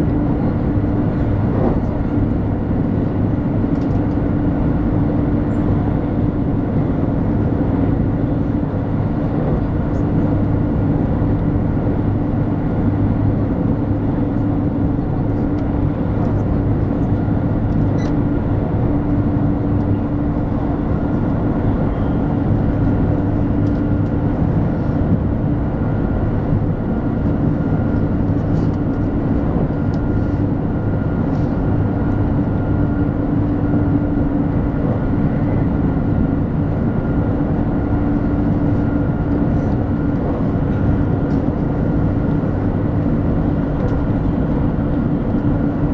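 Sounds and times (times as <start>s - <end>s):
constant low hum: 0.0s - 45.9s
rumble of wheels and air: 0.0s - 45.9s.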